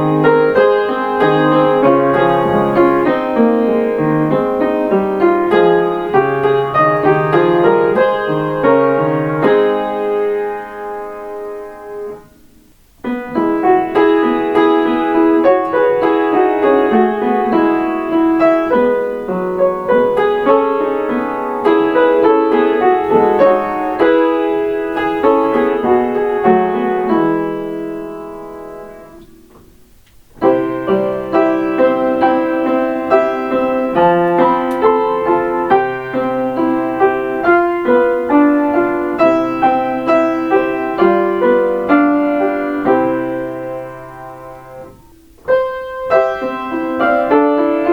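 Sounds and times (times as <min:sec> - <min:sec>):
solo piano melody: 0:00.0 - 0:47.9.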